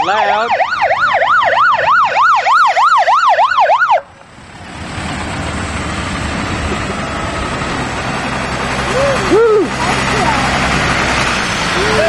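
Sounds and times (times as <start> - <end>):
fire truck siren wailing: 0.0 - 12.0
truck engine rumbling: 0.0 - 12.0.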